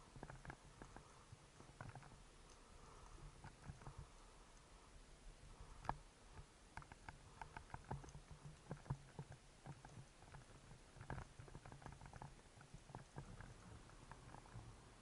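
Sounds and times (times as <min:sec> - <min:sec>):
underwater clicks and crackles: 0:00.0 - 0:04.7, 0:05.6 - 0:15.0.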